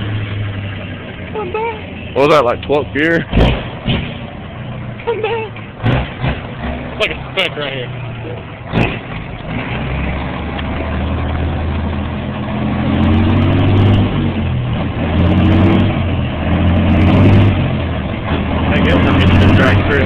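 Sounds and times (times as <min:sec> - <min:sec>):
truck diesel engine accelerating: 0:00.0 - 0:20.0.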